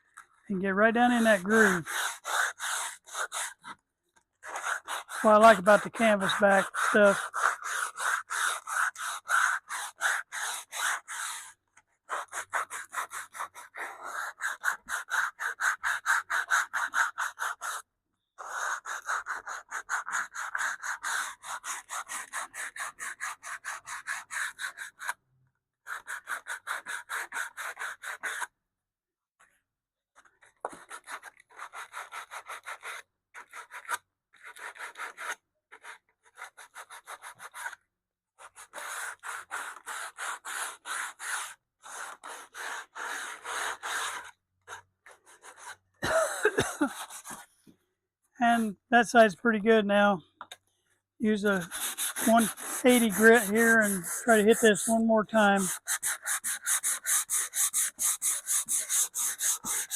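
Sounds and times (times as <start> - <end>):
sandpaper rasping on wood: 1.0 - 3.7, 4.4 - 17.8, 18.4 - 25.2, 25.9 - 28.5, 30.6 - 37.8, 38.4 - 45.8, 46.4 - 47.5, 51.3 - 59.9.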